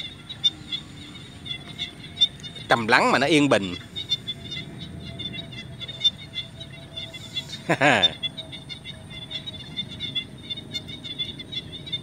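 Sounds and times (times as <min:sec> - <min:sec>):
frogs chirping: 0:00.0 - 0:12.0.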